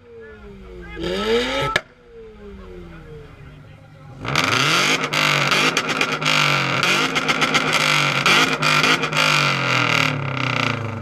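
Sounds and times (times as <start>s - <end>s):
car engine revving: 0.0s - 11.0s
exhaust crackles: 0.0s - 11.0s.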